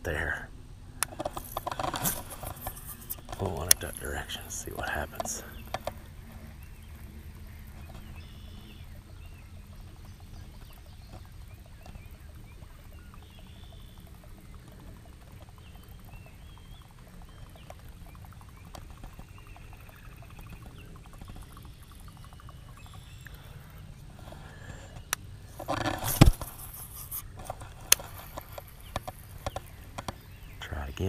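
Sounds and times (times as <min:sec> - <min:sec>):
fishing reel ticking: 0:01.0 - 0:30.6.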